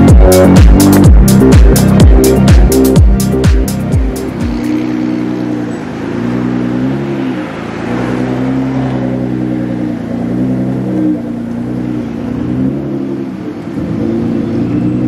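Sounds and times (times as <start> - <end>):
car engine humming at low revs: 0.0 - 15.0.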